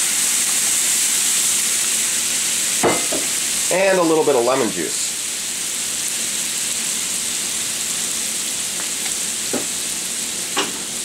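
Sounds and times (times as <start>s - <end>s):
pan sauce sizzling and bubbling: 0.0s - 11.0s.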